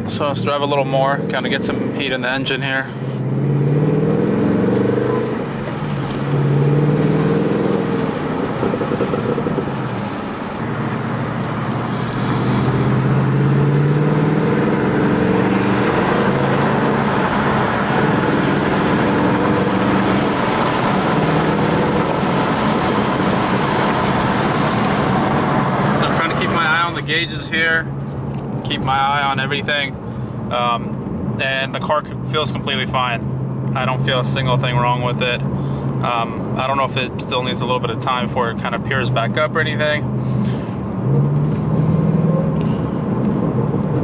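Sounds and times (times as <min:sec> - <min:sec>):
car engine accelerating: 0:00.0 - 0:38.0, 0:38.6 - 0:44.0.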